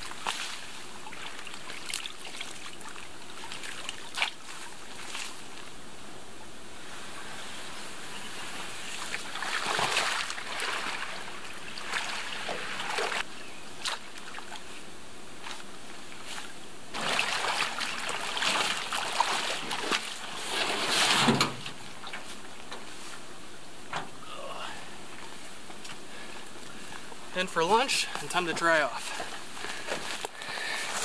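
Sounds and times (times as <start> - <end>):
water splashing and sloshing: 0.0 - 6.0, 6.8 - 24.2, 24.8 - 31.0.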